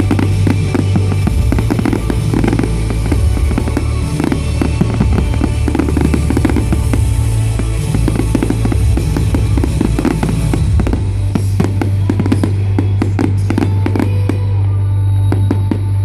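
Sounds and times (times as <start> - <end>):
fireworks bangs and crackles: 0.0 - 16.0
show music with heavy bass: 0.0 - 16.0.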